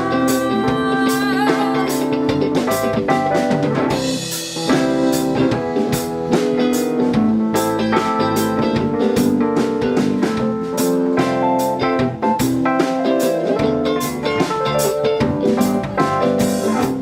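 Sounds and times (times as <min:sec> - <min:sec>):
live pop-rock band playing: 0:00.0 - 0:17.0.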